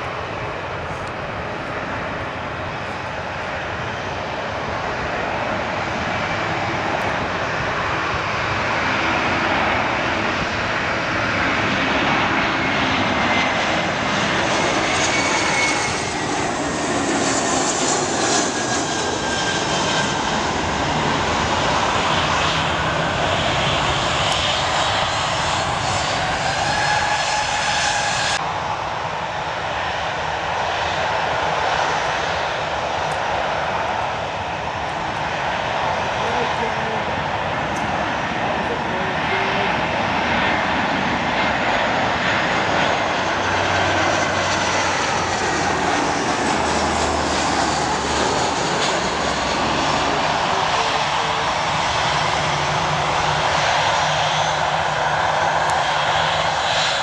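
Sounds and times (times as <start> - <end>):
jet airliner approaching: 0.0 - 57.0.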